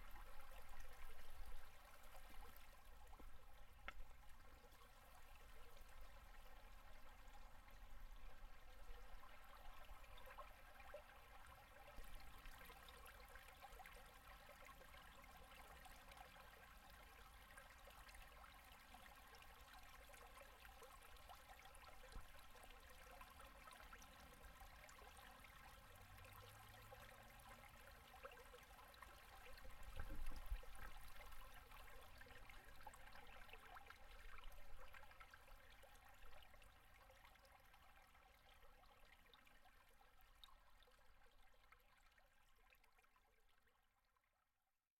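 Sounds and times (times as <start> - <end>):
river water gurgling: 0.0 - 42.9.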